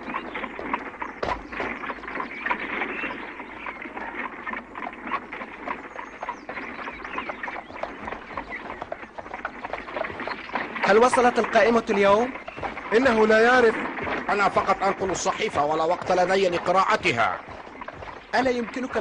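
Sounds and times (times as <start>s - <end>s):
birds chirping: 0.0s - 19.0s
cart wheels rattling: 0.0s - 19.0s
horse hooves on dirt road: 0.0s - 19.0s.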